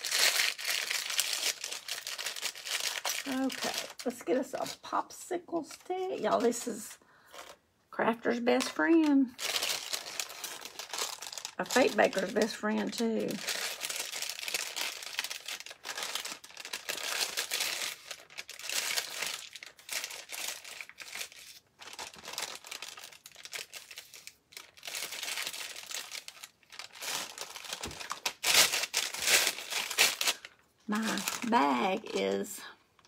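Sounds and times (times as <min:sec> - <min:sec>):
plastic piping bag crinkling: 0:00.0 - 0:07.6, 0:08.2 - 0:33.0.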